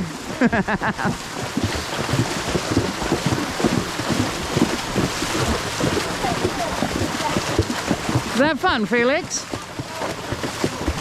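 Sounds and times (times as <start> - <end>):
horse splashing through water: 0.0 - 11.0
rushing water: 0.0 - 11.0.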